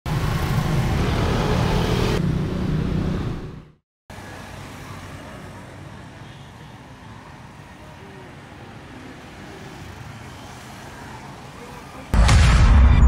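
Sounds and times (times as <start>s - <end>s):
road traffic rumble: 0.1s - 12.2s.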